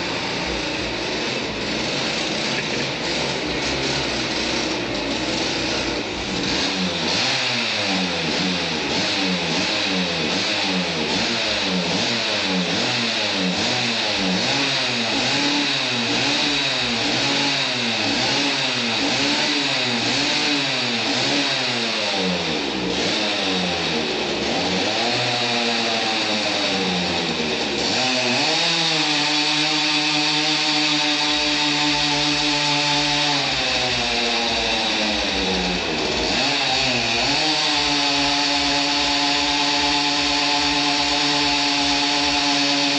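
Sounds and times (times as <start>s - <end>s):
two-stroke engine revving: 0.0s - 42.9s.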